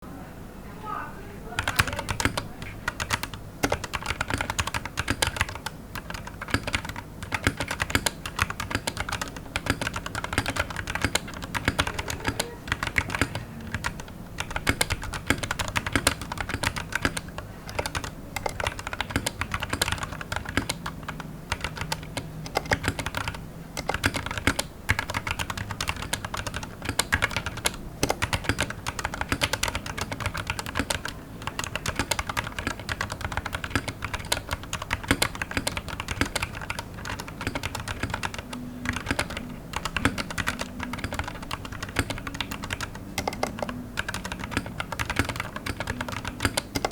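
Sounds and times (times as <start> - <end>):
typing on mechanical keyboard: 1.6 - 46.9.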